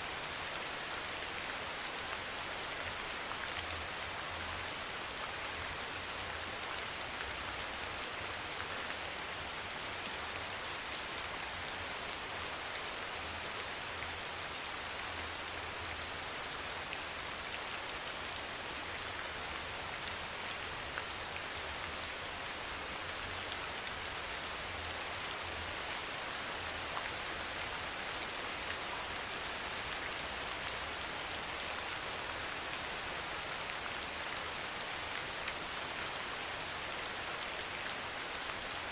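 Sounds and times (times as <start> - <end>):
soft rain pattering: 0.0 - 38.9.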